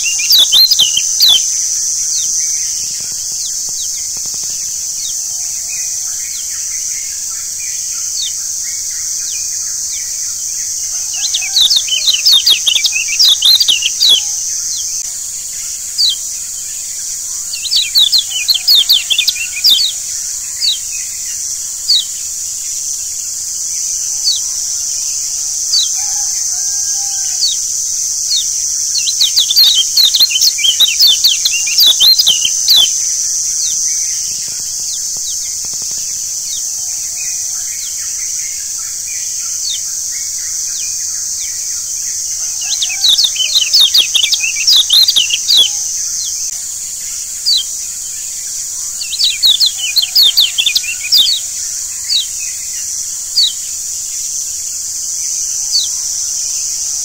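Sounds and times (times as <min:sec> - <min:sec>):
bird twittering in high chirps: 0:00.0 - 0:57.0
high insect drone: 0:00.0 - 0:57.0.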